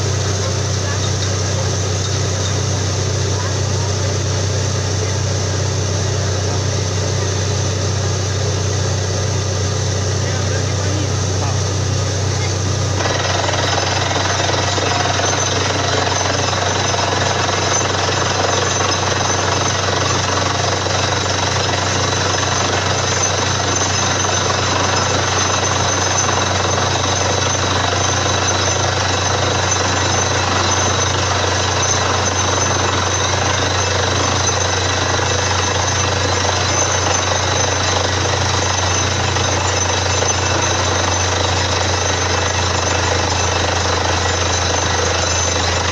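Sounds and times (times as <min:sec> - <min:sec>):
drilling rig hammering rattle: 0:00.0 - 0:45.9
rig engine drone: 0:00.0 - 0:45.9.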